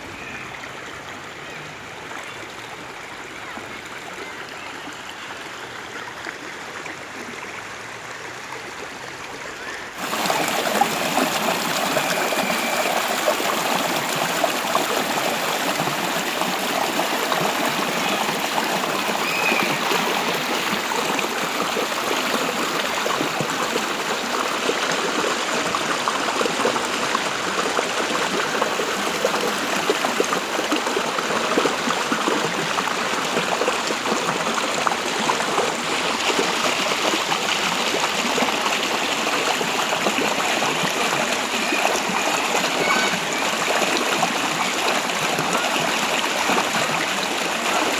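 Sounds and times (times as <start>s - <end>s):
stream water rushing and trickling: 0.0s - 47.9s.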